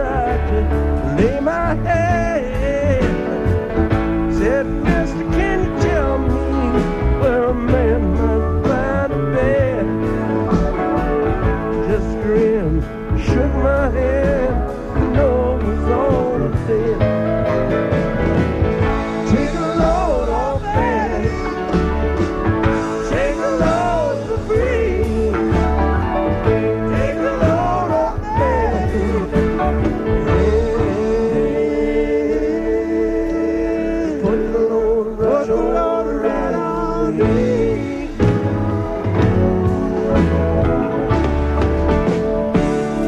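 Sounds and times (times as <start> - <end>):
song with singing and guitar: 0.0 - 43.0.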